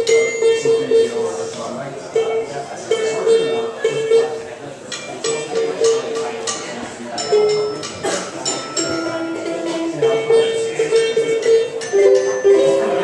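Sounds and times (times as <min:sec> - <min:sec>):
ukulele picking and strumming: 0:00.0 - 0:08.1, 0:08.8 - 0:13.0
murmur of people talking: 0:00.0 - 0:13.0.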